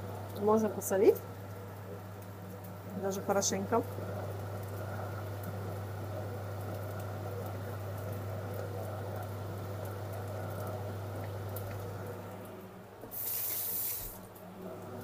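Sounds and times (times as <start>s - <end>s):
kitchen appliance humming: 0.0s - 15.0s
kitchen tap running: 2.9s - 15.0s.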